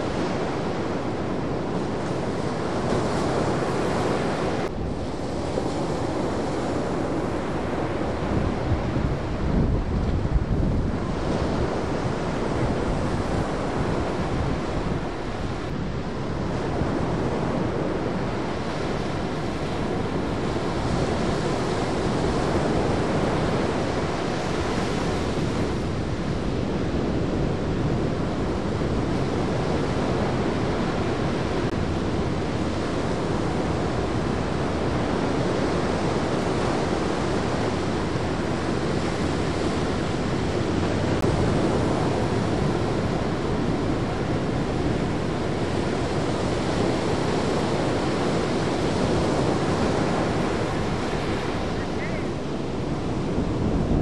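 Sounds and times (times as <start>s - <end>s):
ocean surf breaking: 0.0s - 54.0s
wind on microphone: 0.0s - 54.0s.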